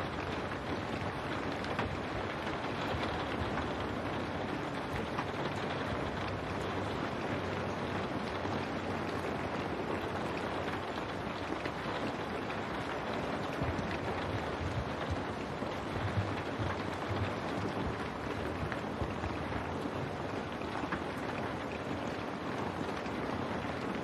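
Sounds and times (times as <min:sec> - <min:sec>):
rain on window glass: 0:00.0 - 0:24.0
raindrops ticking: 0:00.0 - 0:24.0.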